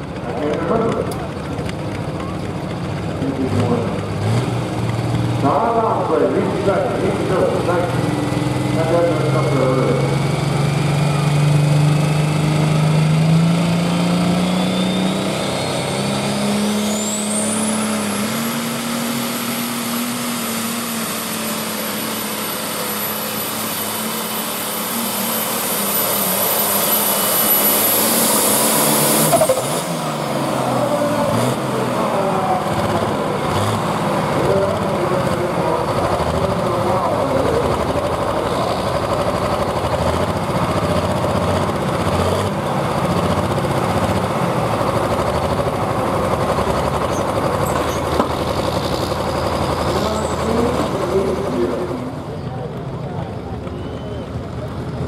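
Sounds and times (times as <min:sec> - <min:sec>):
tractor engine: 0:00.0 - 0:55.0
turbocharger whine: 0:00.0 - 0:55.0.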